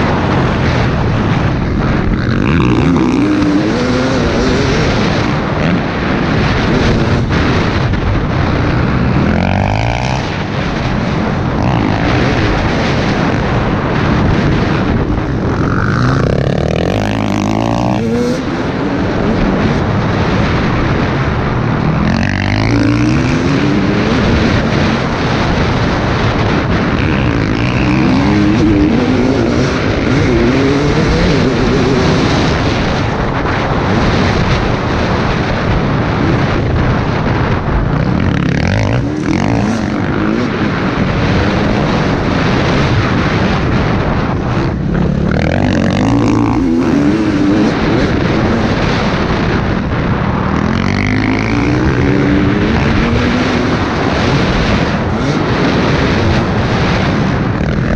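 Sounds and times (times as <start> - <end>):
two-stroke motorcycle engine revving: 0.0 - 57.9.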